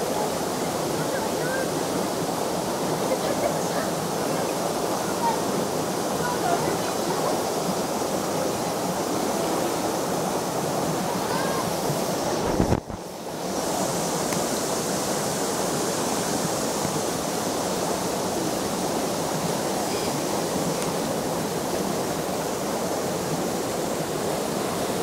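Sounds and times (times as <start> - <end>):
river babbling over stones: 0.0 - 25.0.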